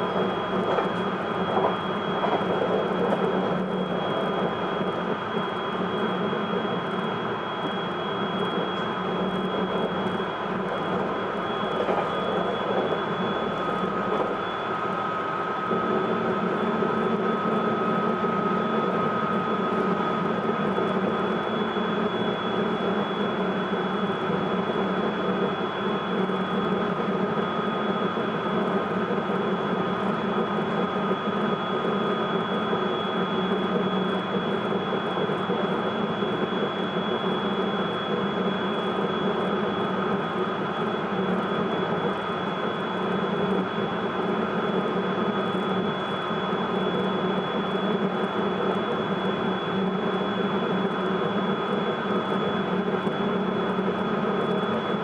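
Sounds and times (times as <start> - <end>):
high electric motor whine: 0.0 - 55.0
train wheel and track noise: 0.0 - 55.0.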